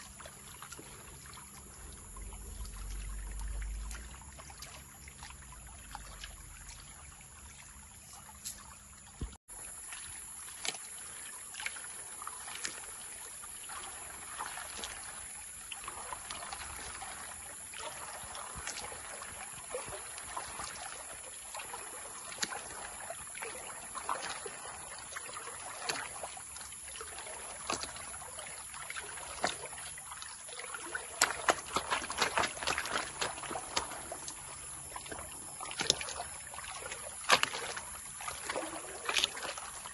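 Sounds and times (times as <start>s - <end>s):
water sloshing in a pan: 0.0s - 39.9s.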